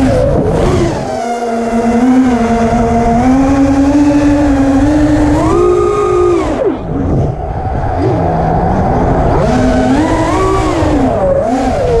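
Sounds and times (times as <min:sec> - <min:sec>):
quadcopter motors whining: 0:00.0 - 0:12.0
wind rush: 0:00.0 - 0:12.0.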